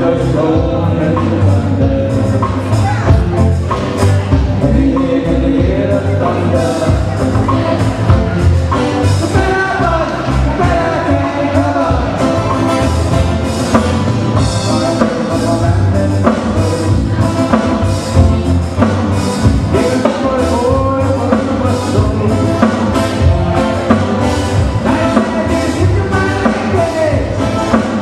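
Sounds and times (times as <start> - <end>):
live band playing: 0.0 - 28.0
steady drum beat: 0.0 - 28.0.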